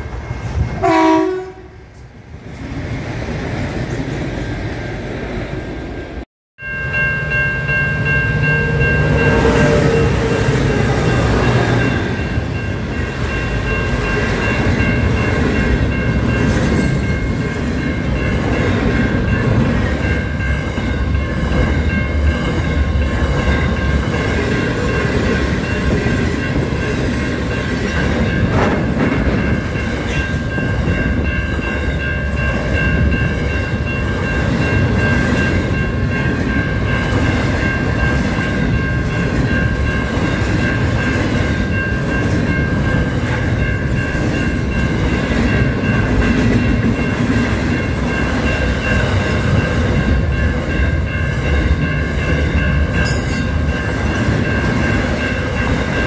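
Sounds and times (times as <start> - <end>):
diesel railcar passing: 0.0 - 56.0
freight train wheels rumbling: 0.0 - 56.0.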